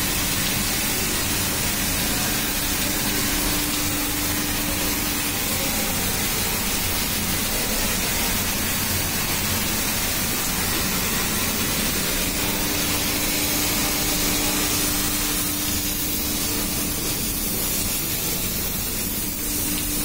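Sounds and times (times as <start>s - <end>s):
loud steady hiss: 0.0s - 20.0s
steady hum: 0.0s - 20.0s.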